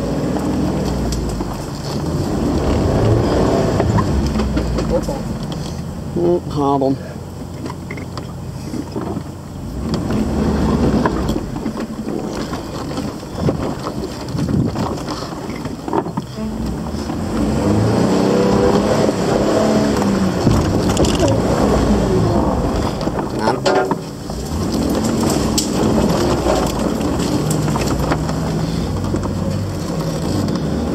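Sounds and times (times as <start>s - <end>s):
car engine running low: 0.0s - 30.9s.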